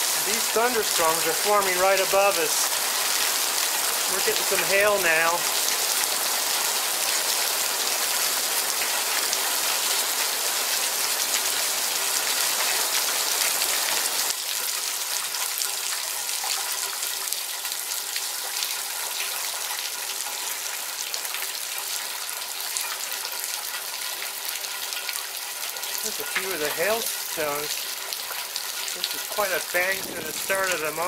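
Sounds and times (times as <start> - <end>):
rain and hail on concrete: 0.0 - 31.0.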